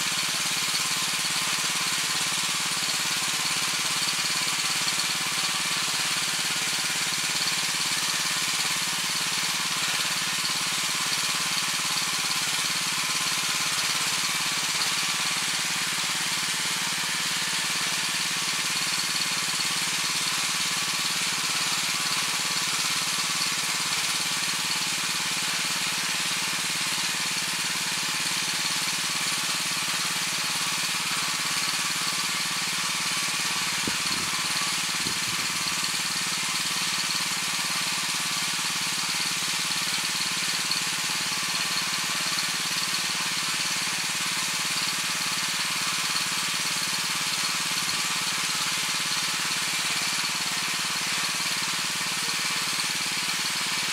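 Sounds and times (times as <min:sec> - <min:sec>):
tiller engine running: 0:00.0 - 0:53.9
tines churning soil: 0:00.0 - 0:53.9.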